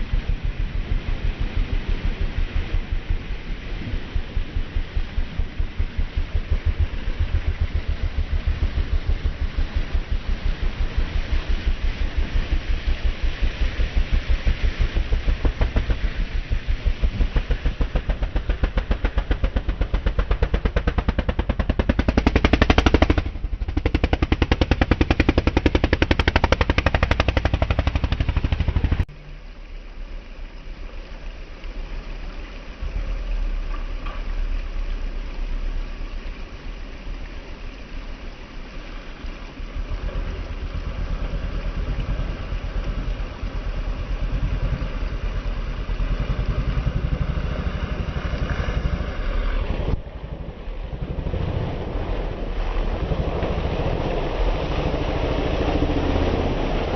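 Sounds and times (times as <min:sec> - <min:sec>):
engine chugging: 0:00.0 - 0:29.5, 0:39.6 - 0:56.9
low rumble: 0:00.0 - 0:56.9.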